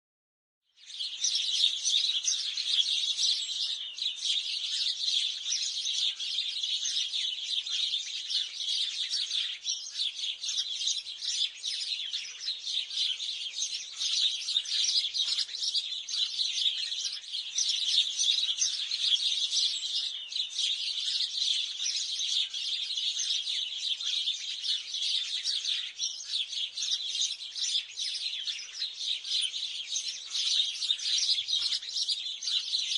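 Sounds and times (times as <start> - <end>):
flock of sparrows chirping: 0.7 - 32.9.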